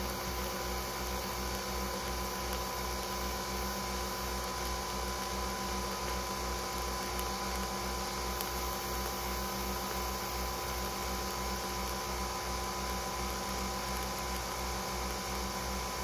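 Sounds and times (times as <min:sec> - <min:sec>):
coffee machine humming and pulsing: 0:00.0 - 0:16.0.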